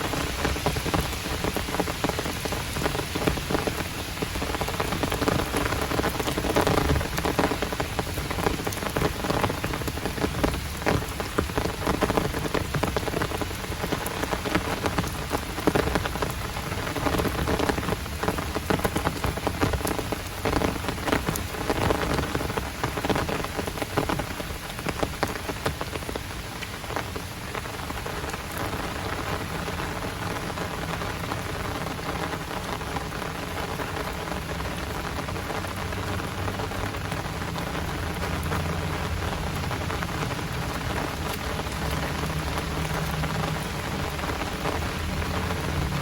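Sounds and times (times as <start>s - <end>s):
heavy rain on hard surfaces: 0.0s - 46.0s.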